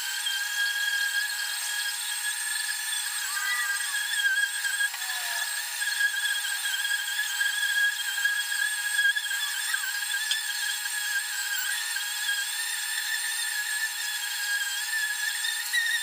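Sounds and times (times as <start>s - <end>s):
air tool high-pitched whine: 0.0s - 16.0s.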